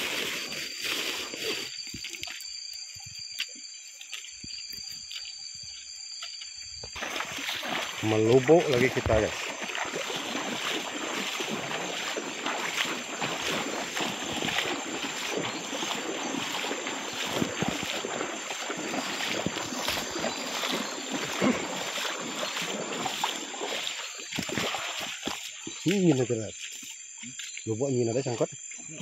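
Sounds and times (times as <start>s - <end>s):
water sloshing around legs: 0.0s - 27.5s.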